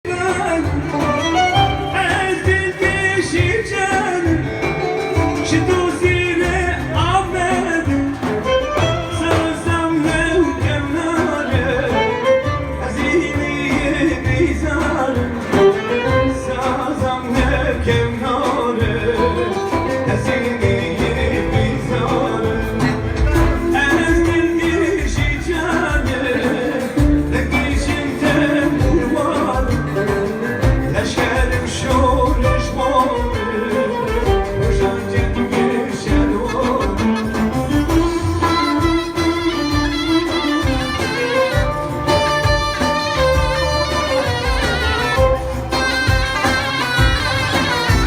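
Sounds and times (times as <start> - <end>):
person singing: 0.0 - 48.0
string melody: 0.0 - 48.0
pulsing bass beat: 0.1 - 48.0.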